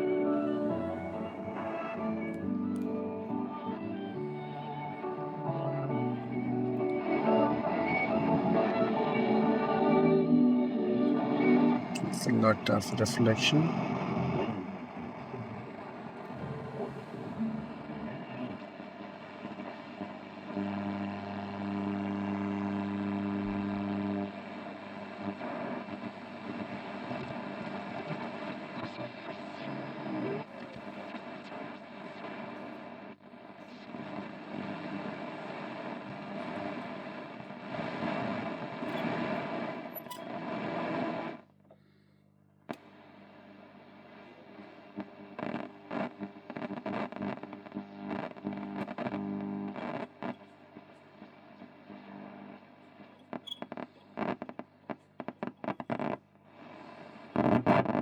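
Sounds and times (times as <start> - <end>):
faint music from radio: 0.0 - 41.4, 42.7 - 53.2
radio hum: 0.0 - 42.0, 42.7 - 58.0
crackles: 0.0 - 58.0
distorted radio reception: 7.5 - 41.4, 43.9 - 58.0.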